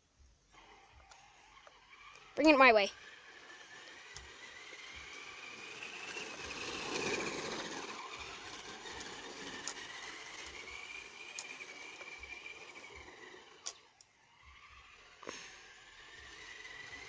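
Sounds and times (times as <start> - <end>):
rough tyre noise: 0.5 - 17.0
toy car electric motor whining: 0.5 - 17.0.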